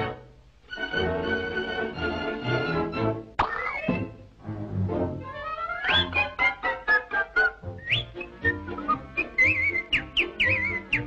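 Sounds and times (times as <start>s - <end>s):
orchestral cartoon music: 0.0s - 11.0s.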